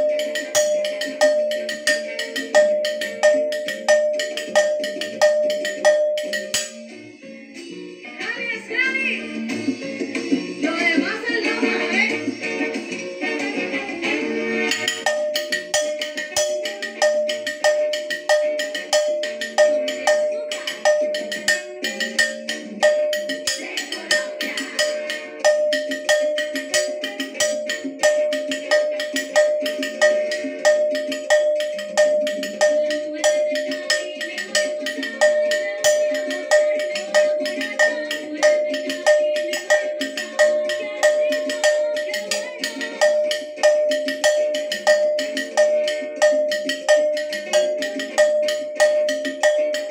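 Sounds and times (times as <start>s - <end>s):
cowbell struck with drumstick: 0.0s - 6.8s, 14.7s - 49.9s
background music: 0.0s - 49.9s.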